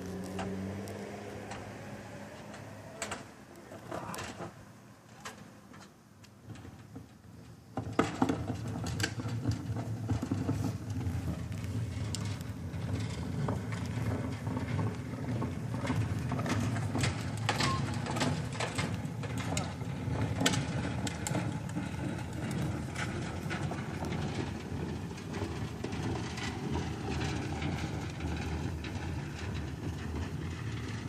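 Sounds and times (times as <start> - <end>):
knocks and rattles: 5.2 - 31.0.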